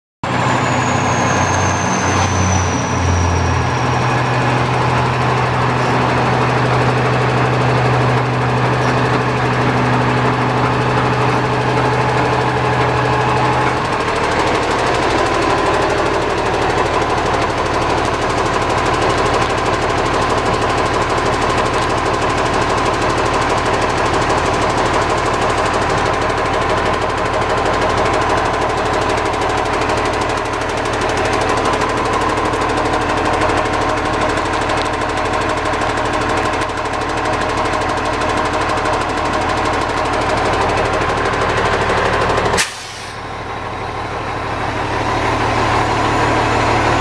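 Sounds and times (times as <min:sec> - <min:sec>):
diesel truck engine running: 0:00.2 - 0:47.0.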